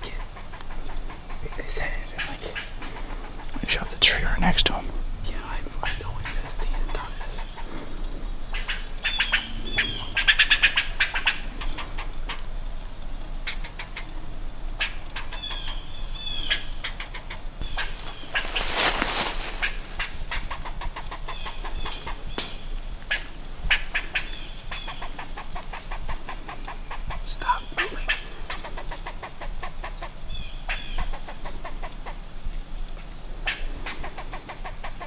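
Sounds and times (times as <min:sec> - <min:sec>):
harsh animal chattering calls: 0:00.0 - 0:04.8, 0:05.5 - 0:12.5, 0:14.8 - 0:32.2, 0:33.4 - 0:35.0
rustling hiss: 0:00.0 - 0:35.0.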